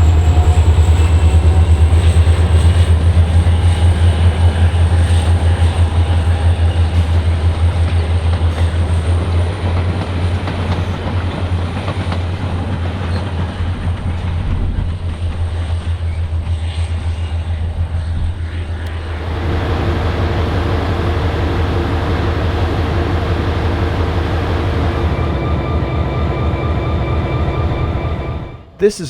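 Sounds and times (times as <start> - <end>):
diesel locomotive idling: 0.0 - 13.9, 18.8 - 29.0
passing diesel train rumble: 0.0 - 29.0.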